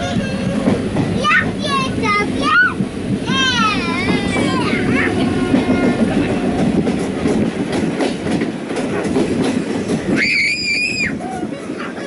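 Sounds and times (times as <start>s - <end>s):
train wheels rumbling: 0.0s - 12.0s
wheels clicking over rail joints: 0.0s - 12.0s.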